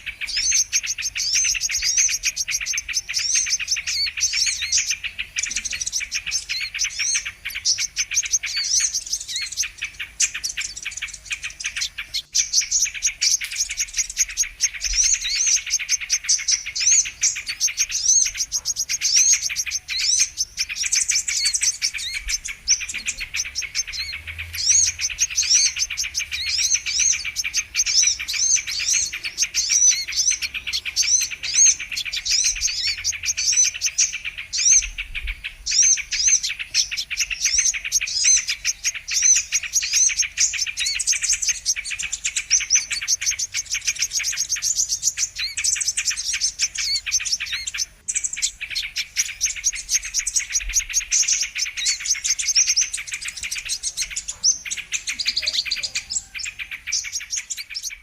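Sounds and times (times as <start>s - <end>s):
bird chirps and trills: 0.0s - 58.0s.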